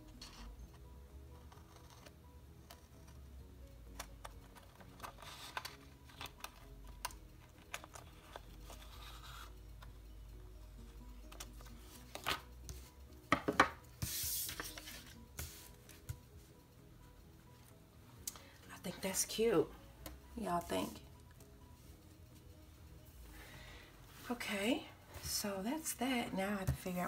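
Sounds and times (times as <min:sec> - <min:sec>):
soft background music: 0:00.0 - 0:27.0.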